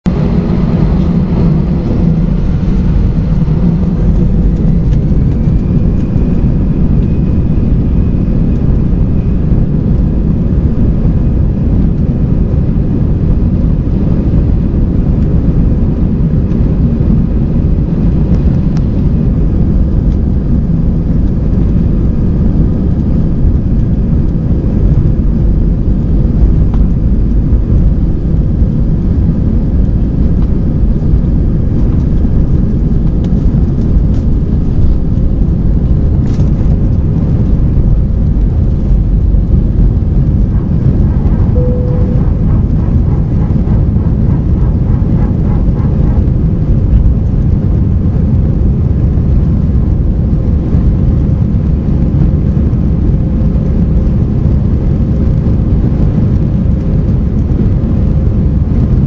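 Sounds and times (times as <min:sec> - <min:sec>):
jet engine whine: 0:00.0 - 0:59.0
jet engine roar: 0:00.1 - 0:59.0.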